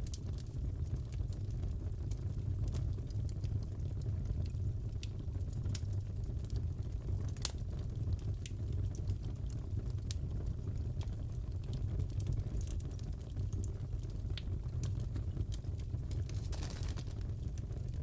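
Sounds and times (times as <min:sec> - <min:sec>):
fire rumbling in fireplace: 0:00.0 - 0:18.0
wood fire pops and crackles: 0:00.0 - 0:18.0.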